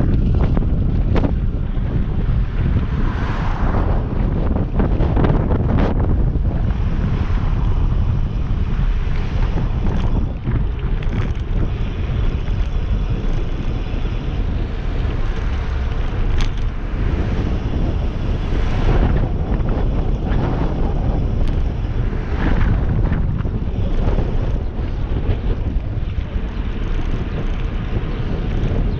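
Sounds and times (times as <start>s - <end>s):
wind noise on microphone: 0.0s - 28.9s.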